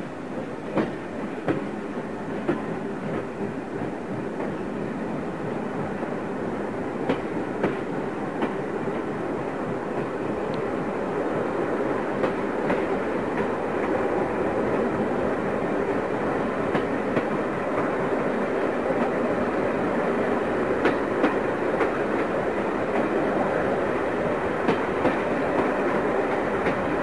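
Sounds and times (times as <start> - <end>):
steam train rolling rumble: 0.0 - 27.0.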